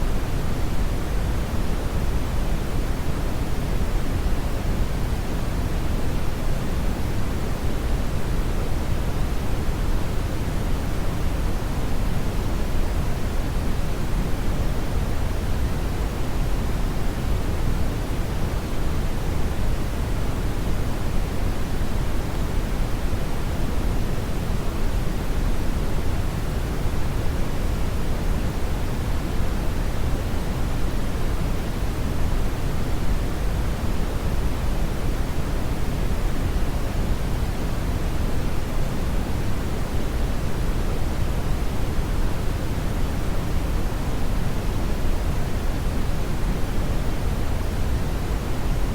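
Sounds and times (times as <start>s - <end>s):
brown noise hiss: 0.0s - 48.9s.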